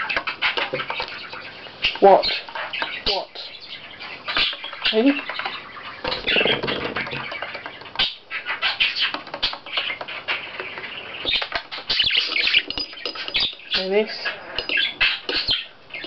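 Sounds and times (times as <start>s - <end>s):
budgerigar chattering and warbling: 0.0s - 16.0s.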